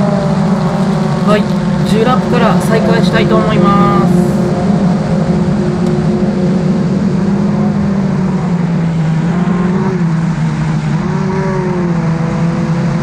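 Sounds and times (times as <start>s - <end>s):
race car engine: 0.0s - 13.0s.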